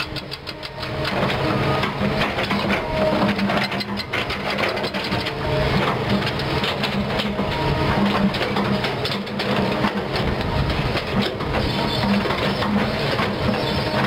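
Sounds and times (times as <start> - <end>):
diesel engine under load: 0.0 - 14.0
excavator bucket scraping rock: 0.0 - 14.0.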